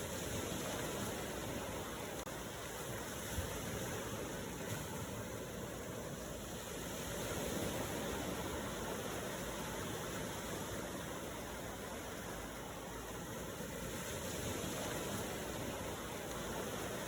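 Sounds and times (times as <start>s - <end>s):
ocean waves rushing: 0.0s - 17.0s.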